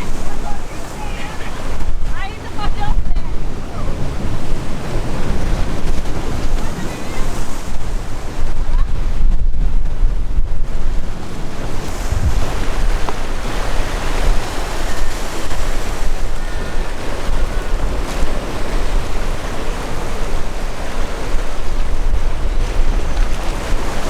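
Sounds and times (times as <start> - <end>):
sea waves washing: 0.0 - 24.0
wind buffeting microphone: 0.0 - 24.0.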